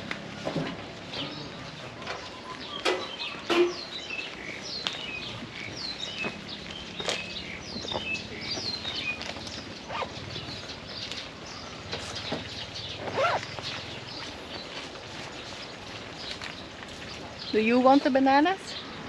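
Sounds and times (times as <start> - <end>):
birds chirping: 0.6 - 19.0.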